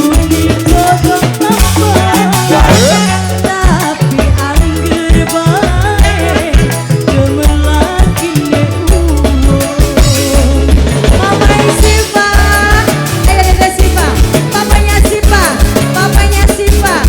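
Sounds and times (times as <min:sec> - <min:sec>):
pitch-bending melody: 0:00.0 - 0:16.6
busy drum beat: 0:00.0 - 0:17.0
deep bass notes: 0:00.0 - 0:17.0.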